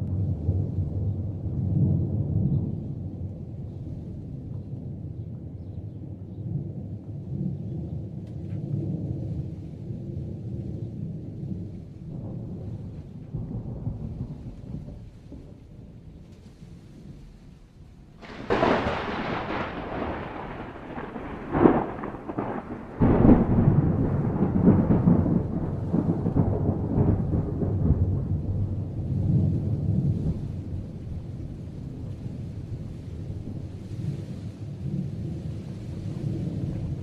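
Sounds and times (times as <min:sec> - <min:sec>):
thunder: 0:00.0 - 0:05.6, 0:06.2 - 0:37.0.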